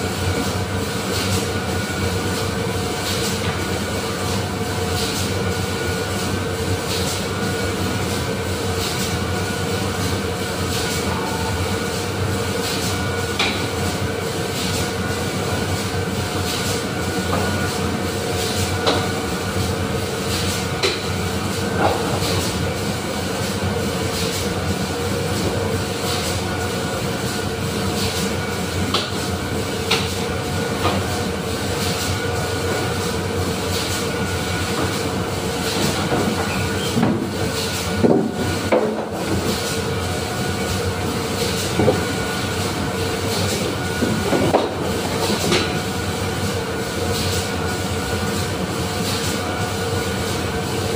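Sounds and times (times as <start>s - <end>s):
factory machinery droning: 0.0s - 50.9s.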